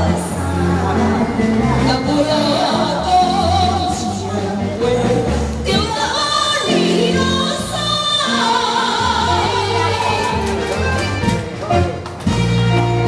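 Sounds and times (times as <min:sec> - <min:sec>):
person singing into microphone: 0:00.0 - 0:10.5
backing music with bass line: 0:00.0 - 0:13.0.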